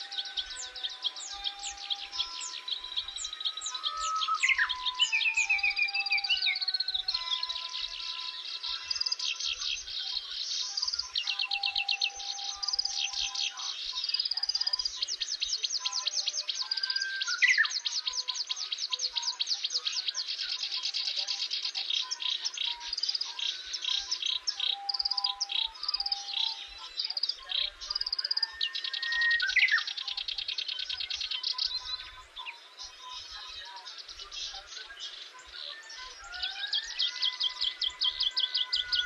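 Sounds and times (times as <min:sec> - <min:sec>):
songbirds trilling and chirping: 0:00.0 - 0:39.0.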